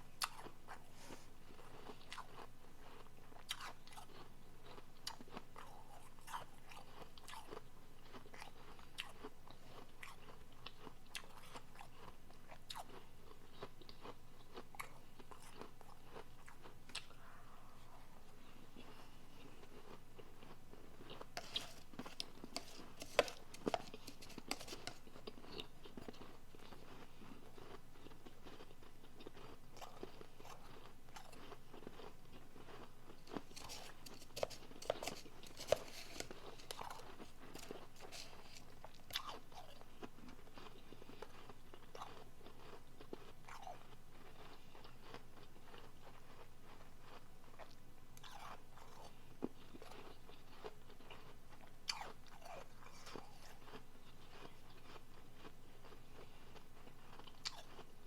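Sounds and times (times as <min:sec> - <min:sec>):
ice being chewed: 0:00.2 - 0:58.0.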